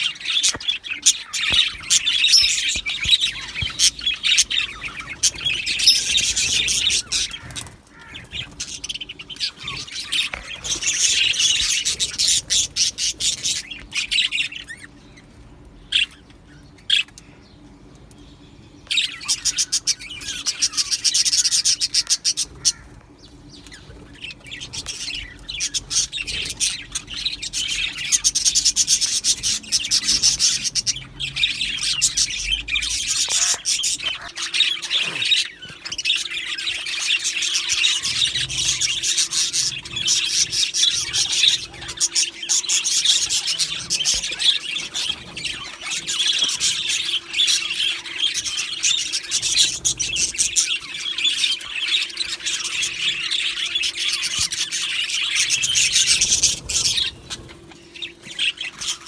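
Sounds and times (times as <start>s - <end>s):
budgerigars chattering and warbling: 0.0s - 15.2s, 18.9s - 59.0s.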